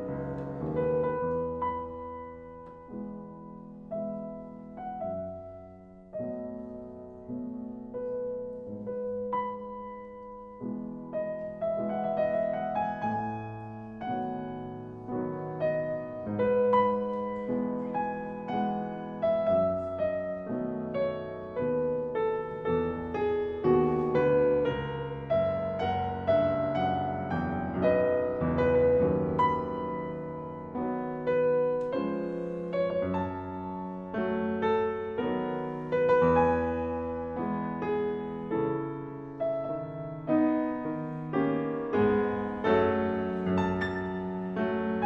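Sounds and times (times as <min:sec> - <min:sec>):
solo piano music: 0:00.0 - 0:45.0.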